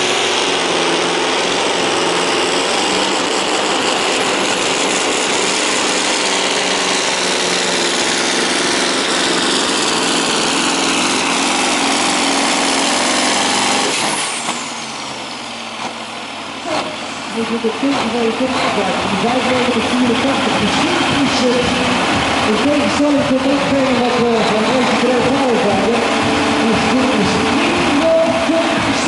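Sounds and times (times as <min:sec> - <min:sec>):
truck engine running under load: 0:00.0 - 0:29.0.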